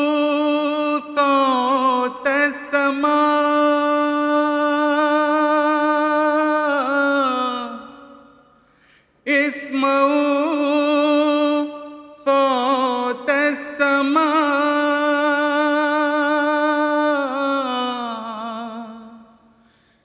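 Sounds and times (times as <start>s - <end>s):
man chanting unaccompanied: 0.0s - 8.3s, 9.2s - 19.4s.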